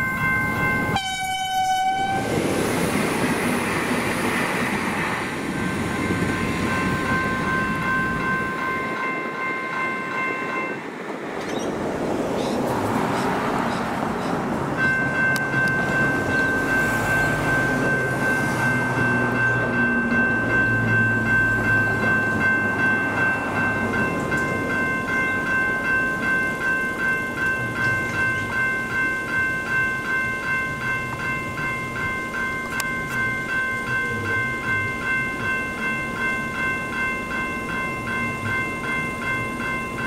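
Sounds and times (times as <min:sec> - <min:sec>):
level-crossing bell ringing: 0:00.0 - 0:02.1, 0:03.9 - 0:11.7, 0:14.7 - 0:40.0.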